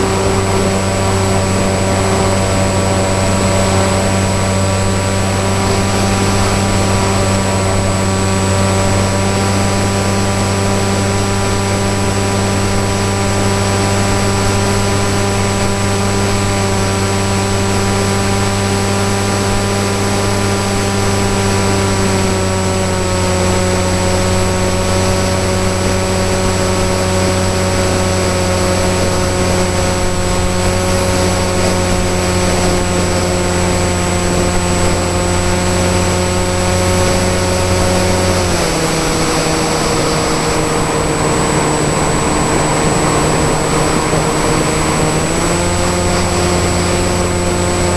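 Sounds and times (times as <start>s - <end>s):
model plane motor and propeller: 0.0s - 47.9s.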